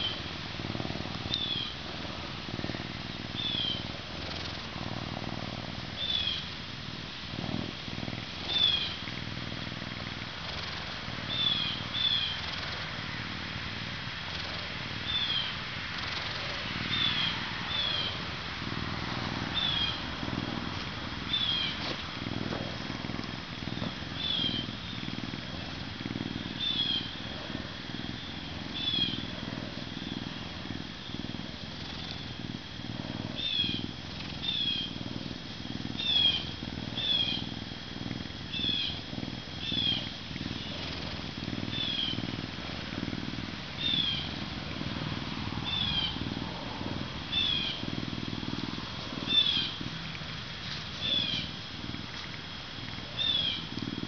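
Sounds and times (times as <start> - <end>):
lynx purring: 0.0 - 54.0.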